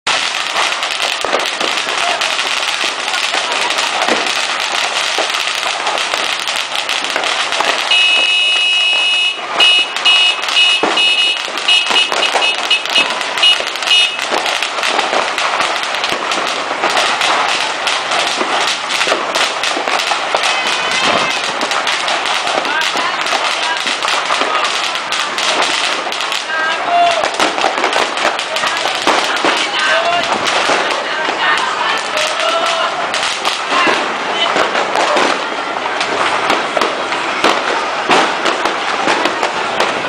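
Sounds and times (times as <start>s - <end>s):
firecrackers crackling and popping: 0.0s - 40.0s.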